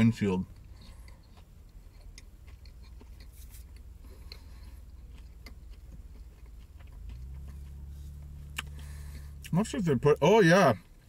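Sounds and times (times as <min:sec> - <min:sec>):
low hum inside car: 0:00.0 - 0:11.0
man chewing: 0:00.4 - 0:09.6, 0:10.8 - 0:11.0.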